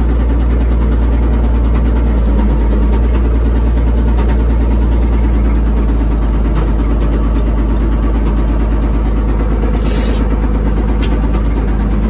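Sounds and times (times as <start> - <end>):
diesel engine rumbling: 0.0 - 12.0
fast regular engine ticking: 0.0 - 12.0.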